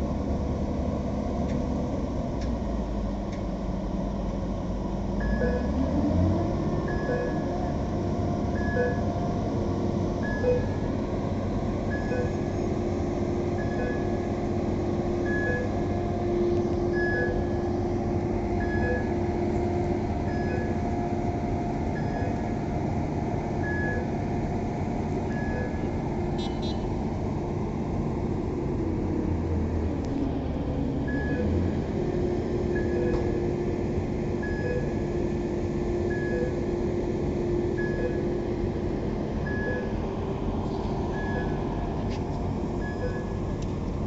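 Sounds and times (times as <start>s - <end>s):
crane drone and hum: 0.0s - 44.0s.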